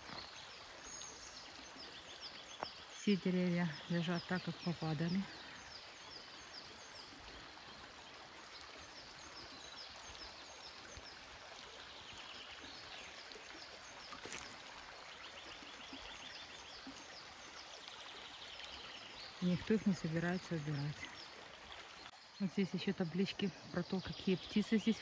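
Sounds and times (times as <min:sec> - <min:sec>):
forest stream running: 0:00.0 - 0:25.0.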